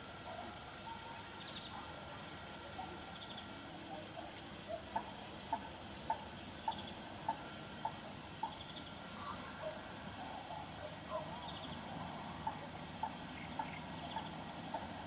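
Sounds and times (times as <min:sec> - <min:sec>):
waterside ambience: 0:00.0 - 0:15.0
faint high bird trill: 0:02.8 - 0:15.0.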